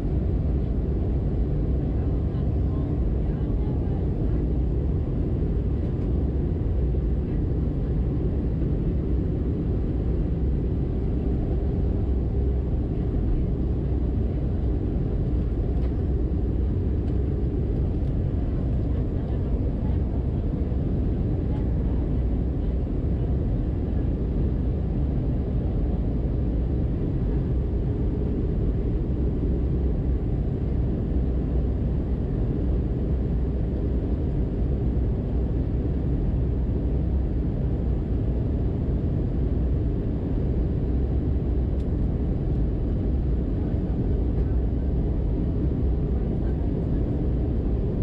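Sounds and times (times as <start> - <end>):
airliner cabin rumble: 0.0 - 48.0.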